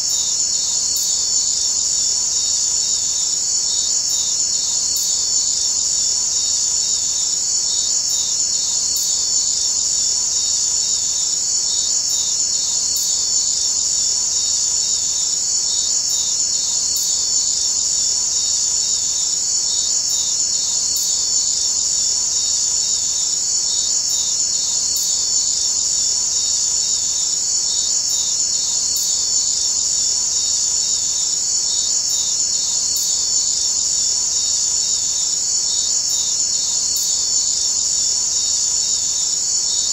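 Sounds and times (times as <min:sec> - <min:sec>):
high chirring insect chorus: 0:00.0 - 0:39.9.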